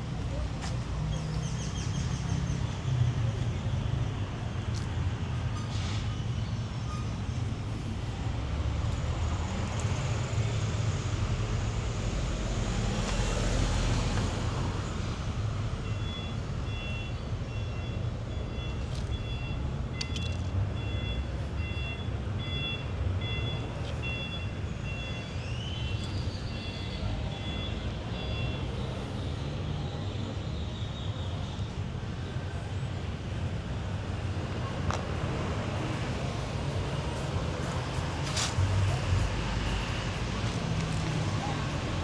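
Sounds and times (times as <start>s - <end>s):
traffic rumble: 0.0s - 42.0s.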